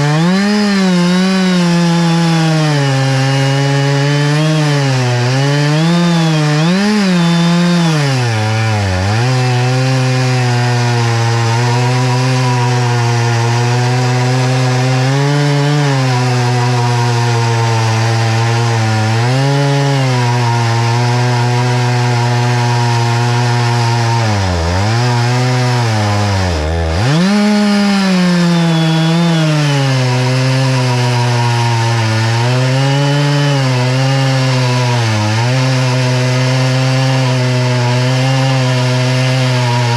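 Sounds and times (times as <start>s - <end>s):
chainsaw cutting log at high revs: 0.0s - 39.9s.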